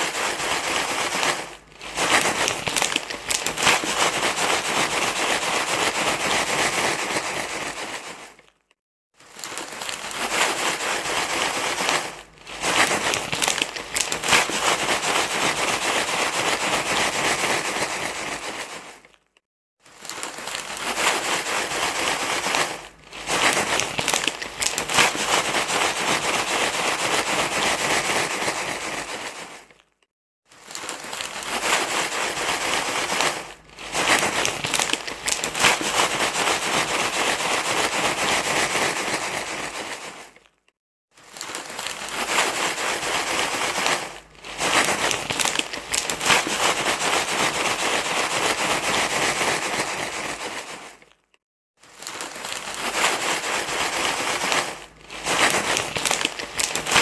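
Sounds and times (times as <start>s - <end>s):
crinkling and crumpling rustle: 0.0s - 57.0s.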